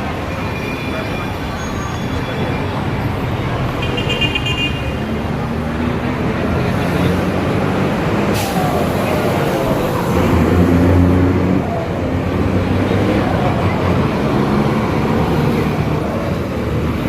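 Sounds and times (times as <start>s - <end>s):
busy outdoor crowd: 0.0s - 17.0s
traffic noise: 0.0s - 17.0s.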